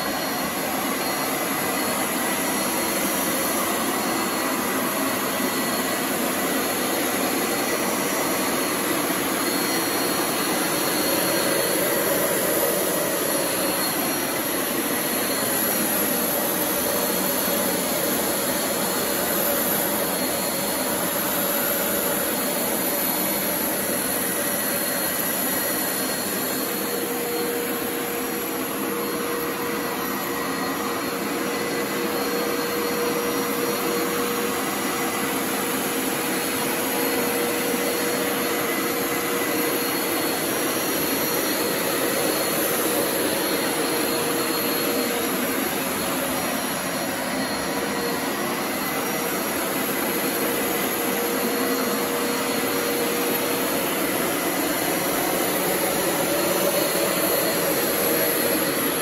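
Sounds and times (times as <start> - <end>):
carpet cleaner running: 0.0 - 59.0.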